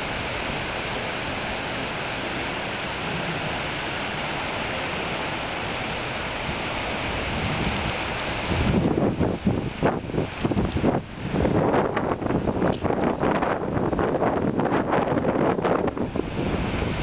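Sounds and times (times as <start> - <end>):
strong wind rushing: 2.7 - 17.0.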